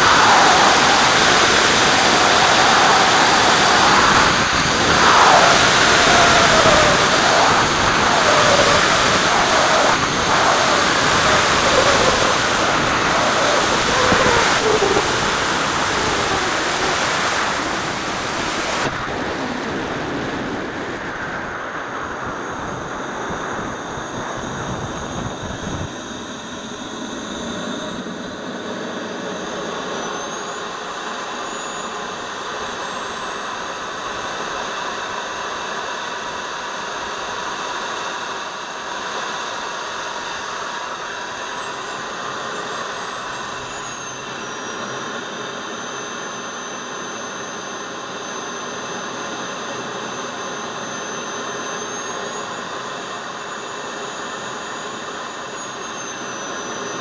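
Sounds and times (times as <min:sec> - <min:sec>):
model jet engine whining: 0:00.0 - 0:57.0.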